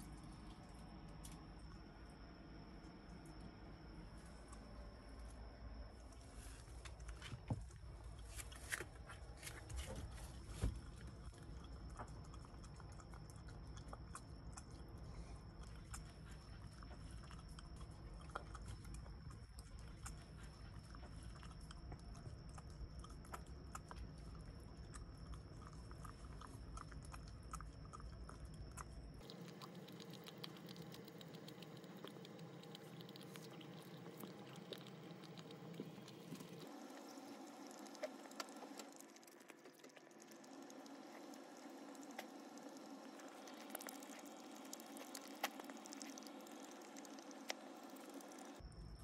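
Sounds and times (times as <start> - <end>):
dog chewing and licking: 6.9 - 48.6.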